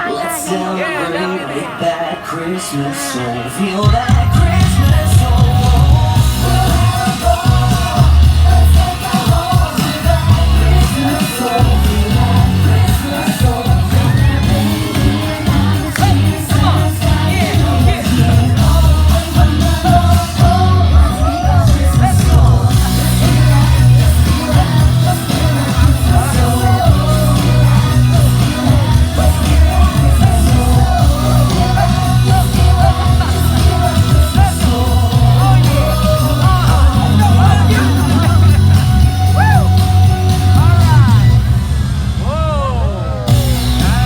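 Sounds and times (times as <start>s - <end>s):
pop song with sung vocals: 0.0s - 44.0s
heavy bass beat: 3.8s - 44.0s.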